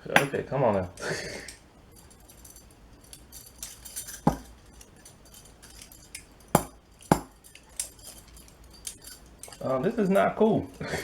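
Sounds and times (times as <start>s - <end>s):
handcuffs and key clinking: 0.1s - 11.0s.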